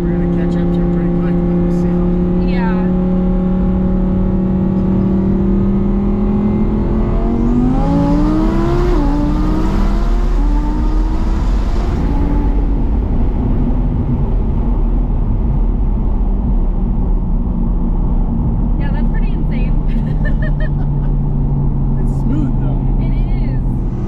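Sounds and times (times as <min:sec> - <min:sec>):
car engine accelerating: 0:00.0 - 0:24.0
road and wind noise: 0:00.0 - 0:24.0.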